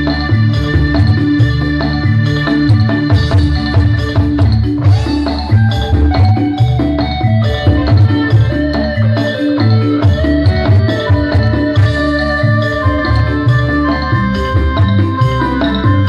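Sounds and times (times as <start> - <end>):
live band playing instrumental: 0.0 - 16.0
repeating bass beat: 0.0 - 16.0
sustained melodic lead: 0.0 - 16.0.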